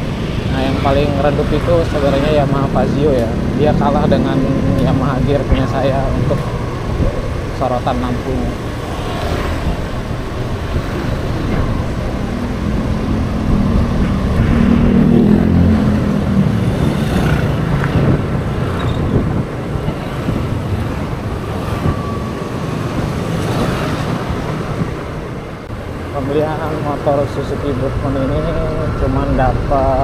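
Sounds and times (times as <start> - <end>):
road noise: 0.0 - 30.0
wind: 0.0 - 30.0.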